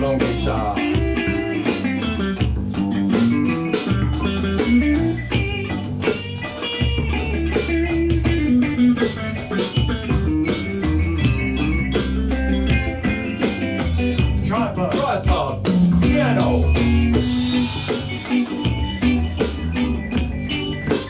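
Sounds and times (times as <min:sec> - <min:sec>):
bass guitar: 0:00.0 - 0:21.0
electric guitar melody: 0:00.0 - 0:21.0
steady drum beat: 0:00.0 - 0:21.0.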